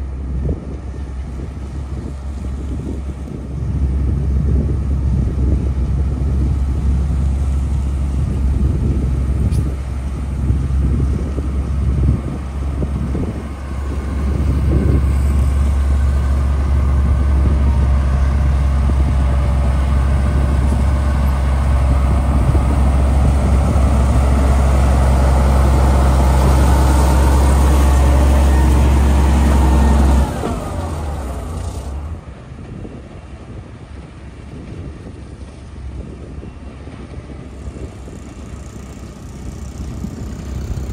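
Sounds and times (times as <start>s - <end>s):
diesel engine droning under load: 0.0s - 40.9s.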